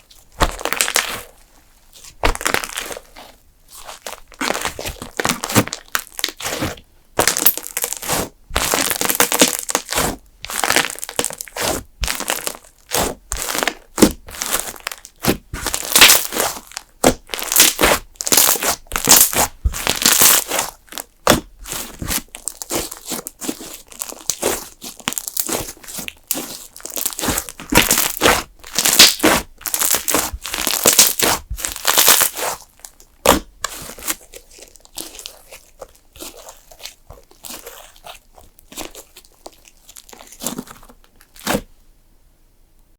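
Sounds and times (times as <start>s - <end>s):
slime being squeezed crackling: 0.0s - 1.4s, 2.0s - 41.7s.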